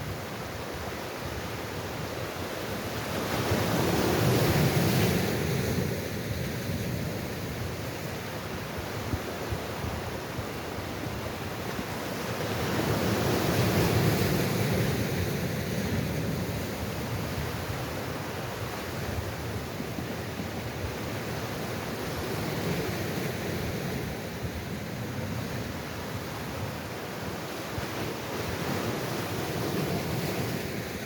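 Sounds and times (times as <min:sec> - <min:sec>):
sea waves washing in: 0:00.0 - 0:31.0.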